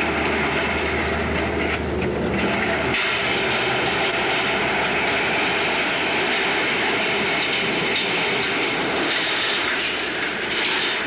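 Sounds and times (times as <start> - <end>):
metal sliding doors rumbling: 0.0 - 11.0.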